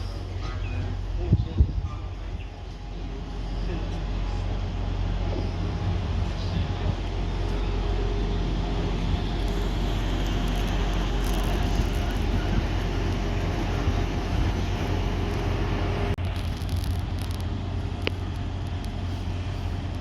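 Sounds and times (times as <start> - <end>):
train diesel engine droning: 0.0 - 20.0.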